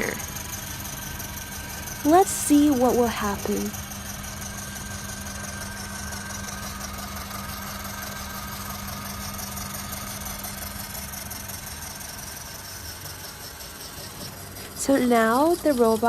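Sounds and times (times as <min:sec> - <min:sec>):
robot vacuum cleaner running: 0:00.0 - 0:16.0.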